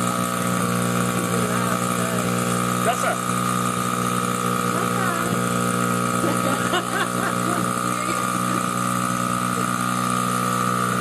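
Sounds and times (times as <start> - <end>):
small petrol engine idling: 0.0 - 11.0.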